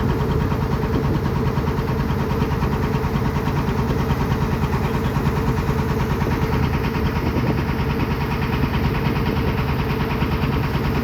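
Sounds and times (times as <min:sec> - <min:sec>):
motor running steadily: 0:00.0 - 0:11.0.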